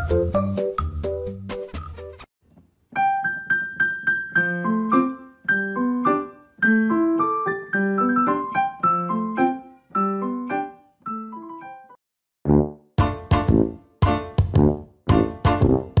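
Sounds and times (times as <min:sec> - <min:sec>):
piano music: 0:00.0 - 0:01.4, 0:02.9 - 0:12.0, 0:13.0 - 0:16.0.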